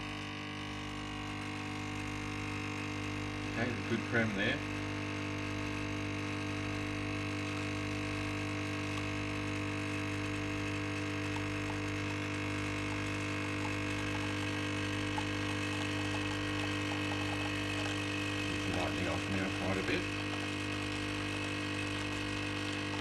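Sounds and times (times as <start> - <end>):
coffee machine pump humming: 0.0 - 23.0
milk frother spinning: 0.0 - 23.0.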